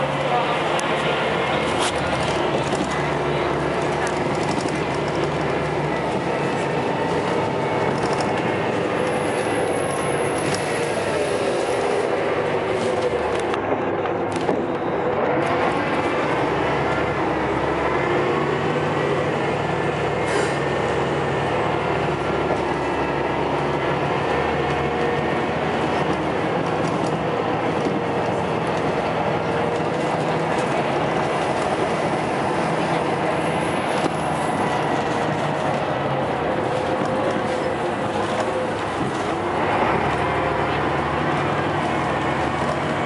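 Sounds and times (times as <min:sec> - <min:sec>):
bus diesel engine running hard: 0:00.0 - 0:43.0.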